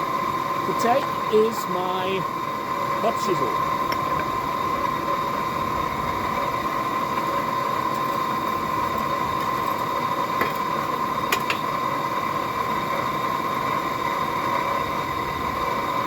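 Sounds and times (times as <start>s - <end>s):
forge air blower: 0.0s - 16.0s.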